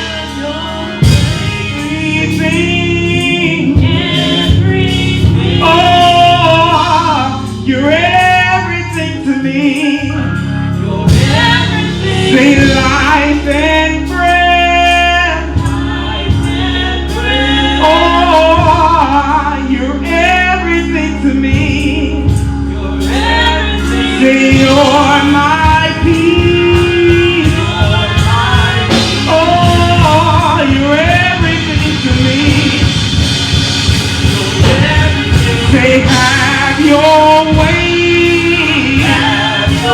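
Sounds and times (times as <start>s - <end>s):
band with bass and keyboard: 0.0s - 39.9s
woman and man singing gospel: 0.0s - 39.9s.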